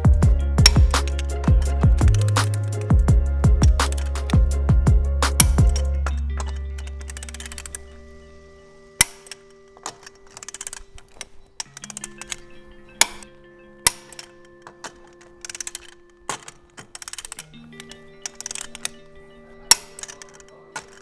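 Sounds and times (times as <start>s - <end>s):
sharp clicks and ticking: 0.0s - 21.0s.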